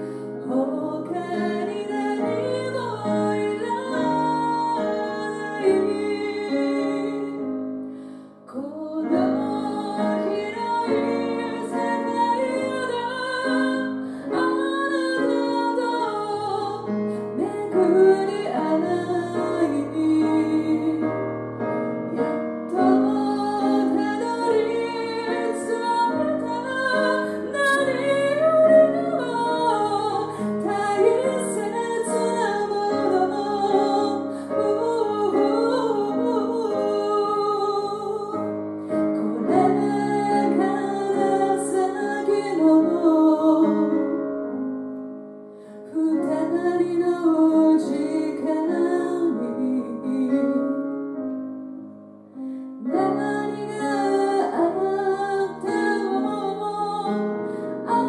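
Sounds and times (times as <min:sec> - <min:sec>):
woman singing: 0:00.0 - 0:44.6, 0:45.8 - 0:51.2, 0:52.8 - 0:58.0
piano accompaniment: 0:00.0 - 0:58.0.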